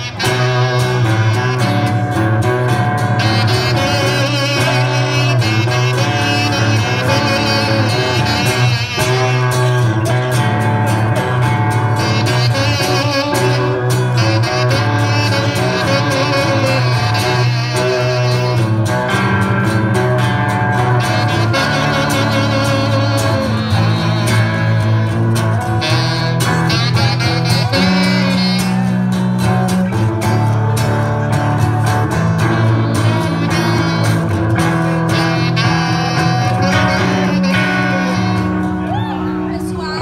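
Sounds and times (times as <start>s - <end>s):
acoustic guitar: 0.0s - 40.0s
electric guitar: 0.0s - 40.0s
saxophone: 0.0s - 40.0s.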